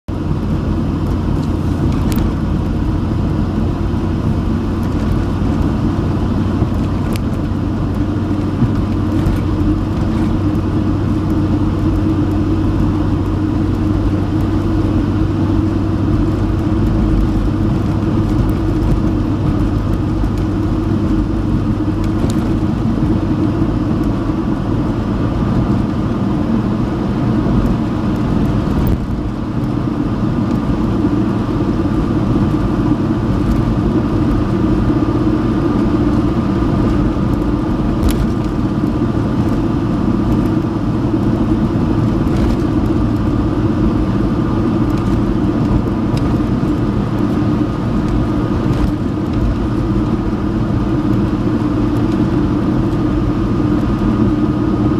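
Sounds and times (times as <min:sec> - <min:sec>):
engine drone: 0:00.1 - 0:54.9
tyres rumbling on gravel: 0:00.4 - 0:54.9.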